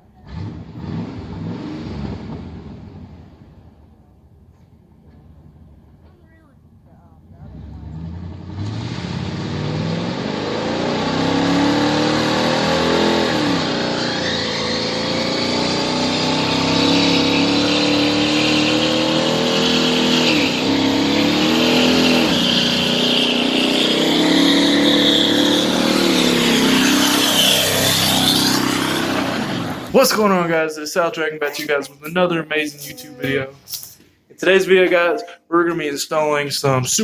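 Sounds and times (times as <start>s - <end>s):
vehicle engine accelerating: 0.0s - 6.1s, 7.2s - 33.0s.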